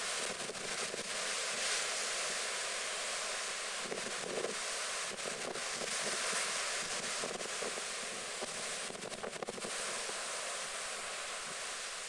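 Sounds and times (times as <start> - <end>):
waves breaking over sea wall: 0.0 - 12.0.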